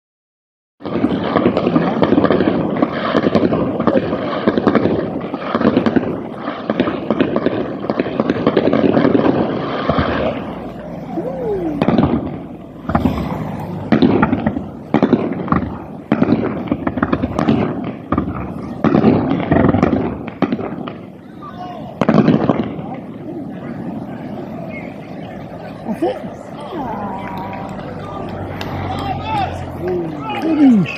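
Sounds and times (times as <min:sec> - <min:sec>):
fireworks bangs and crackle: 0:00.8 - 0:30.9.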